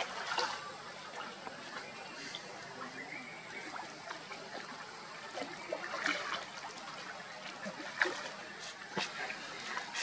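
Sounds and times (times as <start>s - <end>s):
water splashing and lapping: 0.0s - 10.0s.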